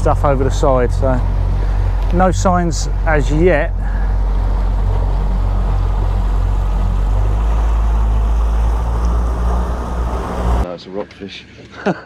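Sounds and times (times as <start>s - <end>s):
outboard motor running: 0.0s - 10.6s
water rushing past hull: 0.0s - 10.7s.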